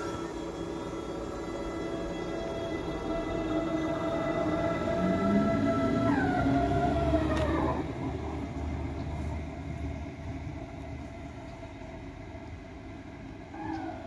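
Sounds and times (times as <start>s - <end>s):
electric train motor whine: 0.0s - 14.0s
train low rumble: 0.0s - 14.0s.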